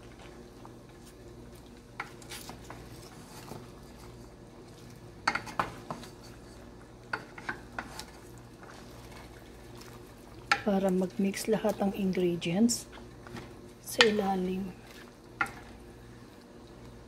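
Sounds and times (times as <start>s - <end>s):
low steady hum: 0.0s - 17.0s
spatula stirring in boiling liquid: 0.0s - 17.0s.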